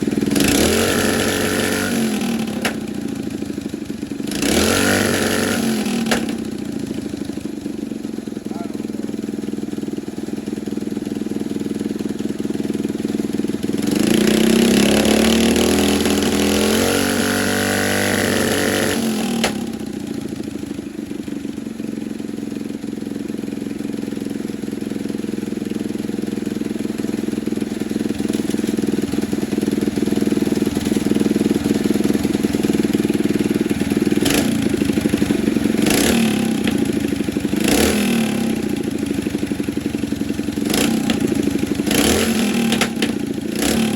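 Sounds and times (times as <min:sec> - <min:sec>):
mini bike engine idling and revving: 0:00.0 - 0:43.9.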